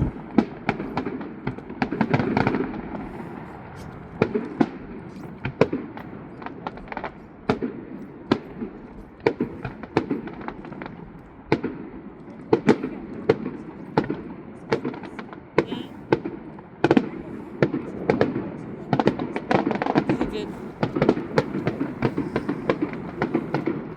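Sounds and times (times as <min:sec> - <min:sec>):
distant fireworks bangs: 0:00.0 - 0:23.9
steady low rumble: 0:00.0 - 0:23.9.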